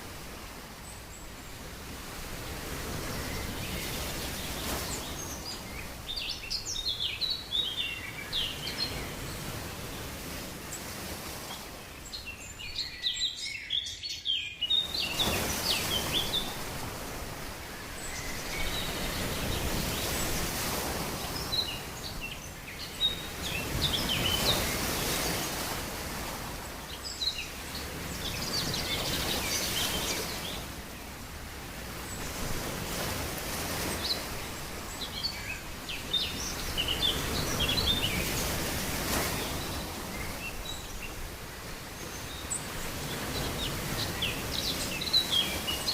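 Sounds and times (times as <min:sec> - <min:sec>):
birds chirping: 0:02.8 - 0:09.7, 0:10.7 - 0:25.8, 0:26.6 - 0:30.8, 0:33.8 - 0:45.9.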